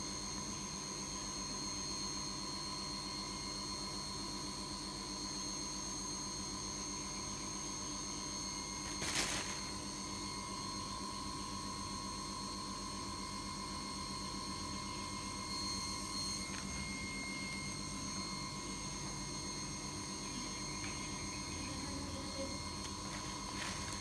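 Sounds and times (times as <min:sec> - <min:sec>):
constant high-pitched tones: 0:00.0 - 0:24.0
steady hum and hiss: 0:00.0 - 0:24.0.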